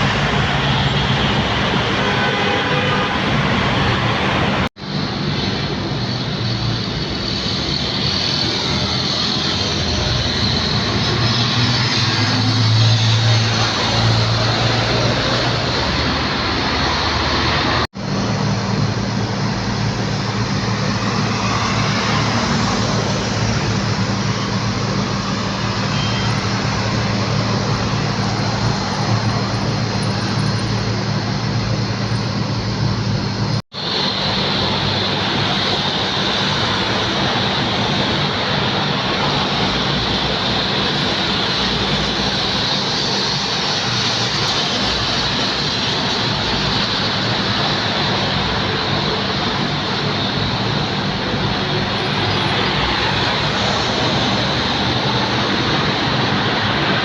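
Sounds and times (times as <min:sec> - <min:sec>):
jet engine noise: 0:00.0 - 0:57.0.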